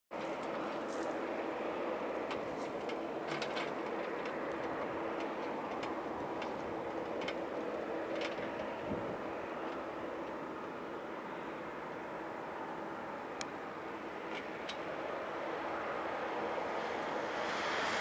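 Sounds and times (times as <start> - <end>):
distant jet engine rumble: 0.2 - 18.0.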